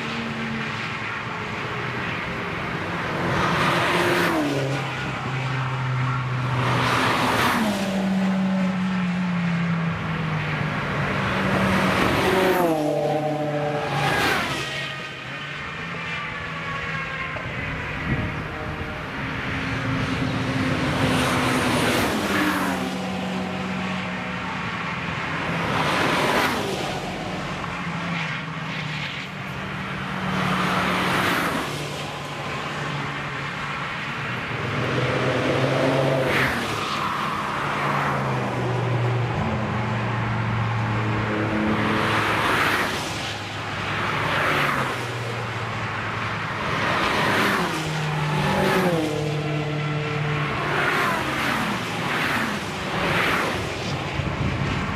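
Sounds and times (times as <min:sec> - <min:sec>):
race cars passing at speed: 0:00.0 - 0:54.9.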